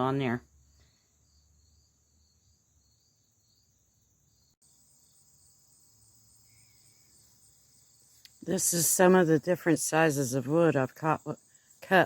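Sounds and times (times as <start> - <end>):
crickets trilling: 0.4 - 12.0.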